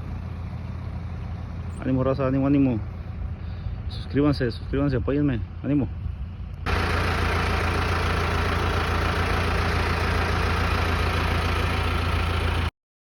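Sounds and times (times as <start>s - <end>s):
tractor engine running: 0.0s - 12.7s.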